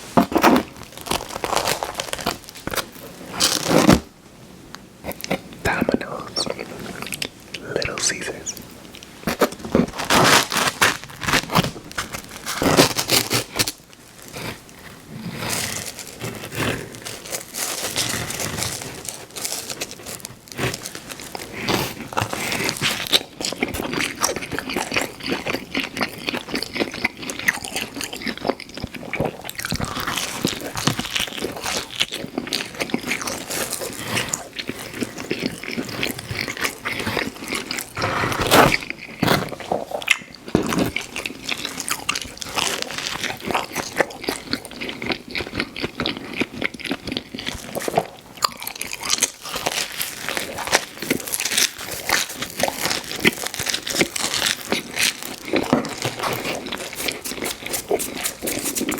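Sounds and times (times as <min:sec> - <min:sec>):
person chewing pizza crust: 0:00.0 - 0:04.1, 0:05.0 - 0:58.9.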